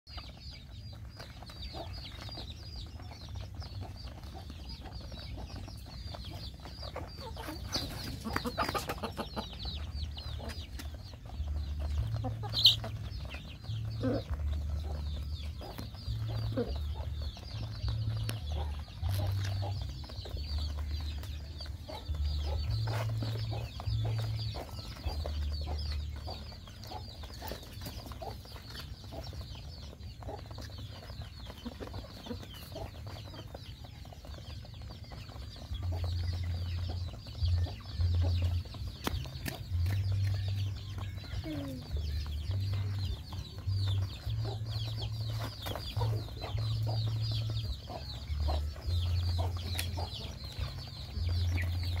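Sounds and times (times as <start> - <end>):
chickens clucking: 0.1 - 52.0.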